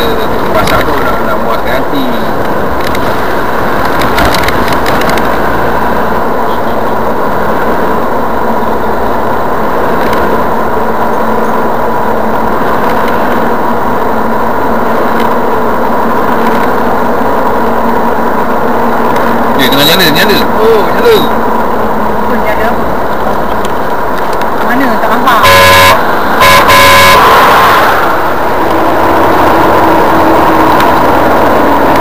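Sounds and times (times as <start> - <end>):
car engine drone: 0.0 - 32.0
tyre noise on wet road: 0.0 - 32.0.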